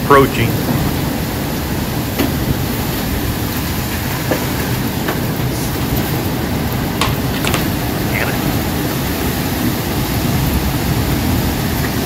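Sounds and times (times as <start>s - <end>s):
storm wind rushing: 0.0s - 12.0s.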